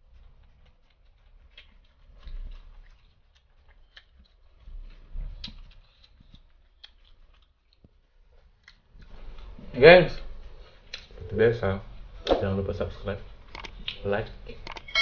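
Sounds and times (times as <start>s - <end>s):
chewing: 0.0s - 12.3s, 13.1s - 14.9s.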